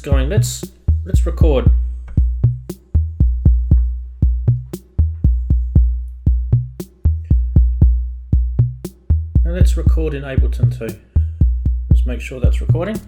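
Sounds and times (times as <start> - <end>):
drum machine beat: 0.0 - 13.0.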